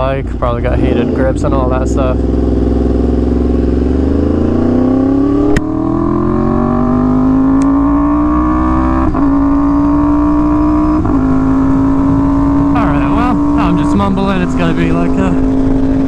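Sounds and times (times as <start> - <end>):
motorcycle engine revving up: 0.7 - 16.0.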